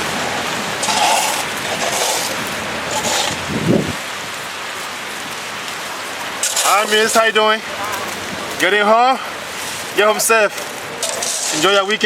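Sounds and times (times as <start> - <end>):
slushy street hissing: 0.0 - 12.0.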